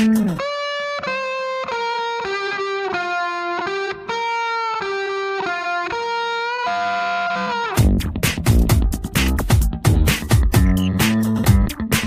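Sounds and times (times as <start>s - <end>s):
guitar melody: 0.0s - 12.0s.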